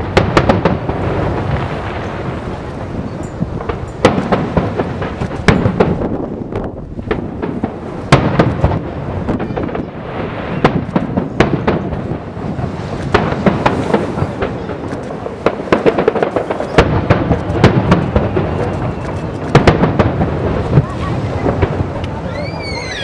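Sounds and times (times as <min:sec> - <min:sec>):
fireworks bangs and booms: 0:00.0 - 0:23.0
fireworks crackling: 0:00.0 - 0:23.0.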